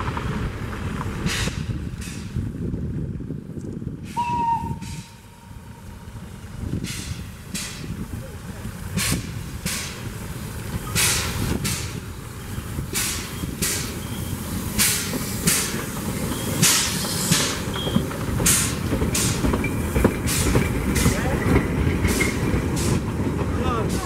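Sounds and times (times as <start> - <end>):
steam locomotive exhaust chuffs: 1.1 - 2.9, 3.9 - 24.0
coaches rolling by: 3.8 - 24.0.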